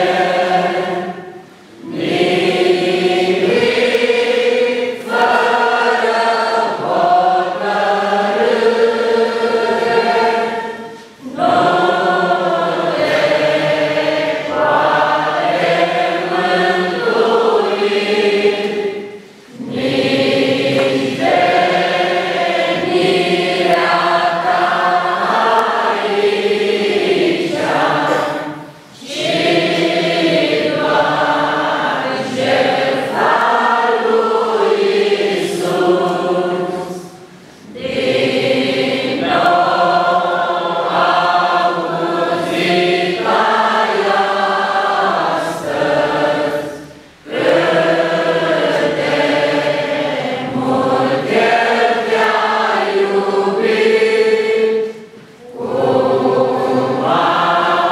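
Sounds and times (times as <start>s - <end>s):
congregation singing a hymn: 0.0s - 57.9s.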